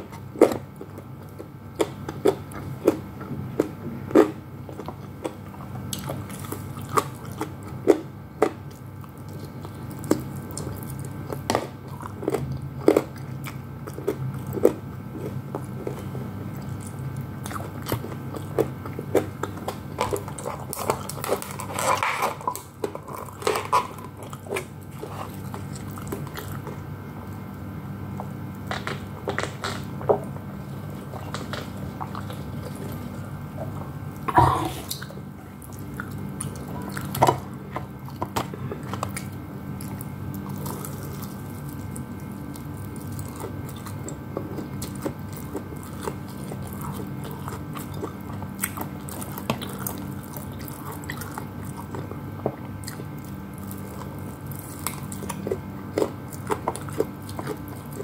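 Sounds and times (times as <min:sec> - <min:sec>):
biting and chewing food: 0:00.0 - 0:58.0
low steady hum: 0:00.0 - 0:58.0.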